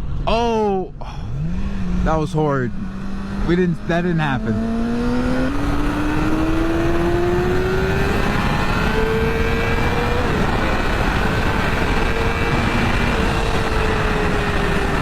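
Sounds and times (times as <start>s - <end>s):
heavy wind rush: 0.0s - 15.0s
motorcycle engine accelerating: 0.0s - 15.0s.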